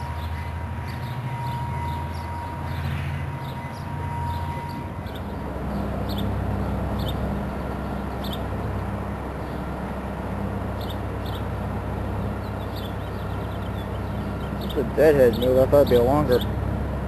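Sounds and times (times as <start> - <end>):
train rumble with diesel drone: 0.0 - 17.0.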